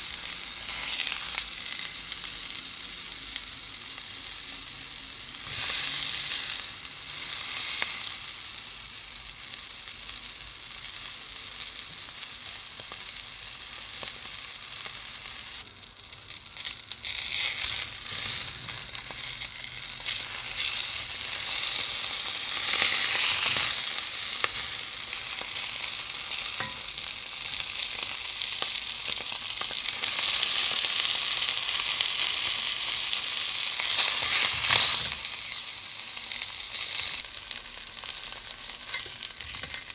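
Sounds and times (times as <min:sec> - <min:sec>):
duck sizzling in frying pan: 0:00.0 - 0:39.9.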